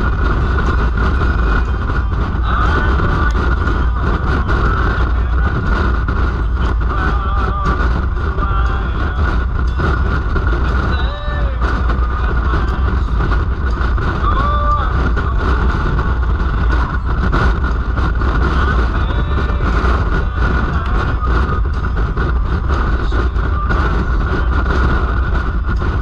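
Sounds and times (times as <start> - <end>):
deep engine drone: 0.0 - 26.0
wind and road noise: 0.0 - 26.0.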